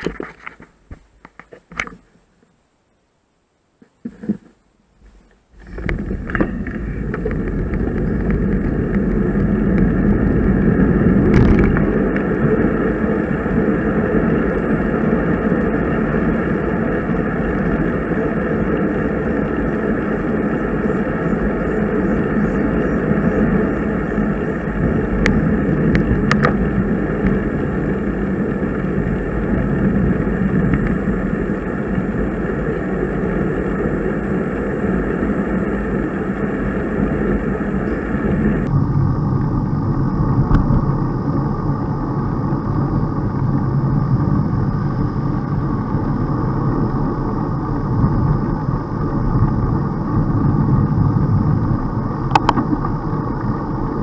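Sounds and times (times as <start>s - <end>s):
bicycle road noise: 0.0s - 54.0s
wind rushing: 5.6s - 54.0s.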